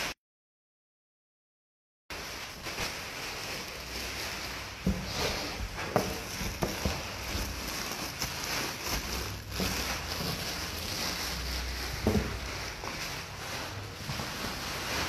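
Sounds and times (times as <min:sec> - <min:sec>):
plastic bag rustling: 0:02.1 - 0:15.0.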